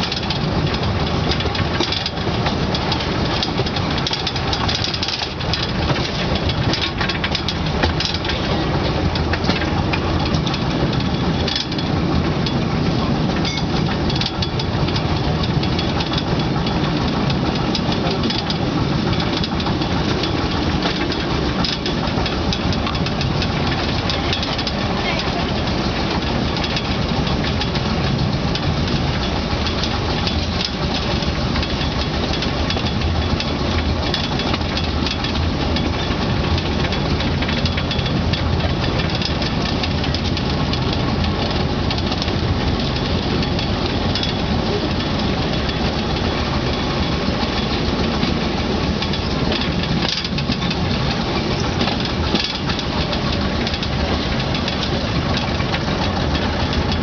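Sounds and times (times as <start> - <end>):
locomotive engine running: 0.0 - 57.0
wagon rumbling on track: 0.0 - 57.0.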